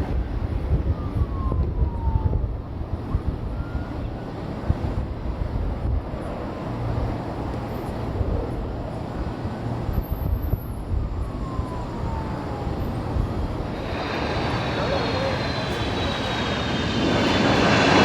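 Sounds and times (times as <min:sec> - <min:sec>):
low engine rumble of traffic: 0:00.0 - 0:18.0.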